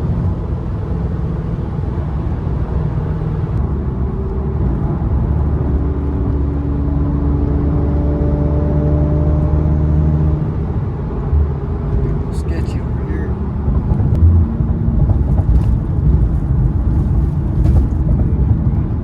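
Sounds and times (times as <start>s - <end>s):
car engine drone: 0.0s - 19.0s
road rumble: 0.0s - 19.0s.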